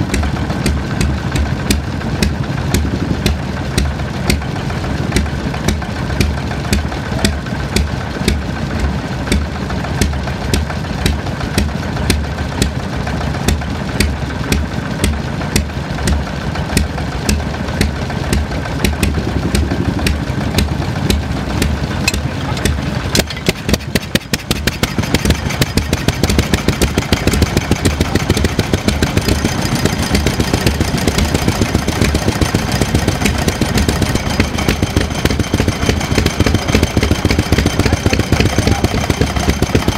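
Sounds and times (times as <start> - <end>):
stationary engine chugging: 0.0 - 39.9.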